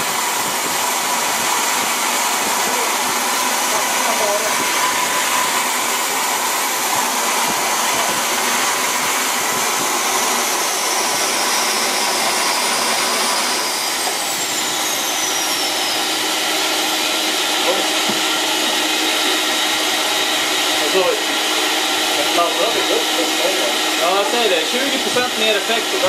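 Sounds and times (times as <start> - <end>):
jet engine rushing with turbine whine: 0.0 - 26.0.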